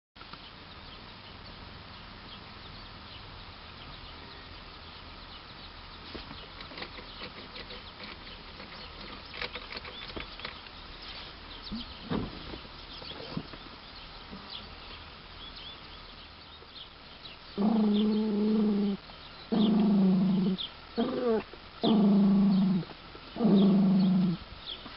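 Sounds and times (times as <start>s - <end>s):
steady background hiss: 0.2s - 24.9s.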